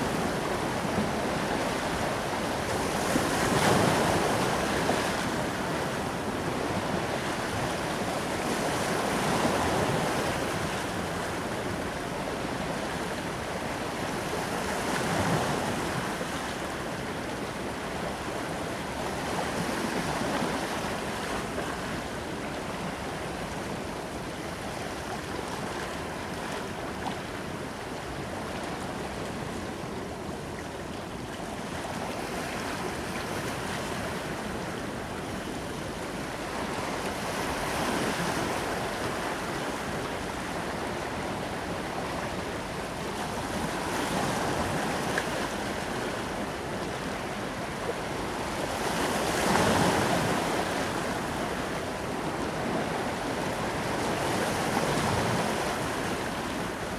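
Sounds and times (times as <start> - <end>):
ocean waves breaking on beach: 0.0 - 30.5, 31.4 - 56.9.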